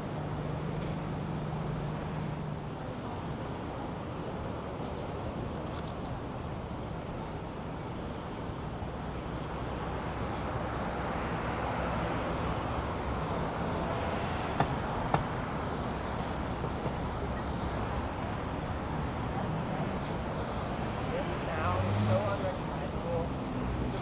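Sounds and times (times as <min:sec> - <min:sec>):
city traffic passing: 0:00.0 - 0:24.0.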